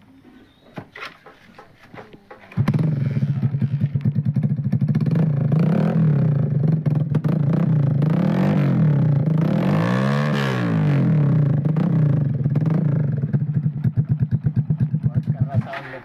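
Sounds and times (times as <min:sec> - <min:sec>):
motorcycle engine revving: 0:02.5 - 0:16.0.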